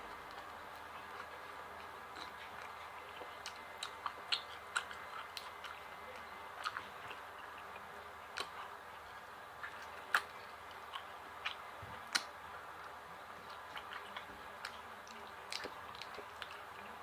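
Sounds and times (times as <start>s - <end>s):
faint steady hiss: 0.0s - 17.0s
person chewing: 0.0s - 17.0s.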